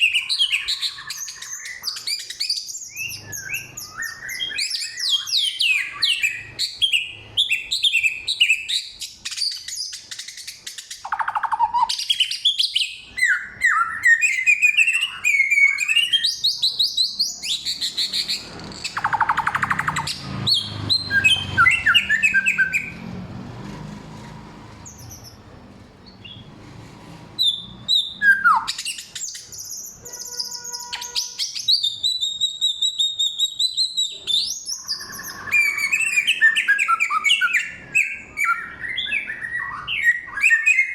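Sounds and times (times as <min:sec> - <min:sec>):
songbird singing: 0:00.0 - 0:23.1, 0:27.4 - 0:40.9.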